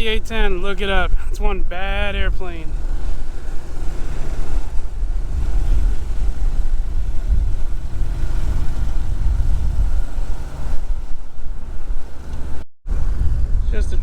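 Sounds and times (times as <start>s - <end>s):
small airplane engine idling: 0.0s - 13.9s
wind buffeting microphone: 0.0s - 14.0s.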